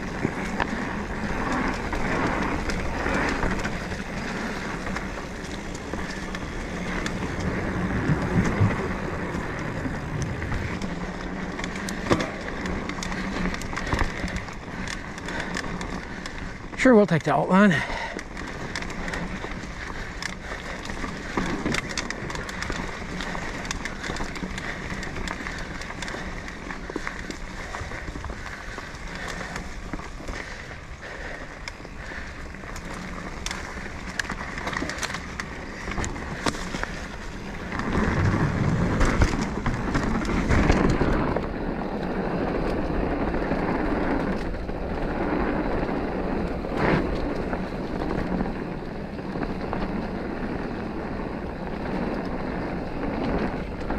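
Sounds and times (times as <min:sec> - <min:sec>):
bike chain and frame rattling: 0:00.0 - 0:53.9
bike tyres rolling on dirt: 0:00.0 - 0:53.9.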